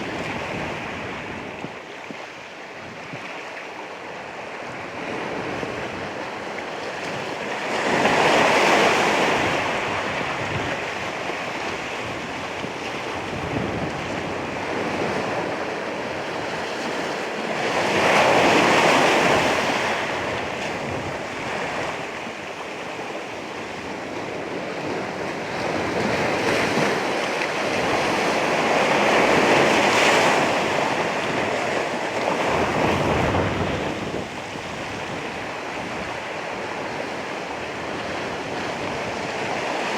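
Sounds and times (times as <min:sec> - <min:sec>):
ocean waves breaking on shore: 0:00.0 - 0:39.9
wash of surf: 0:04.2 - 0:39.9.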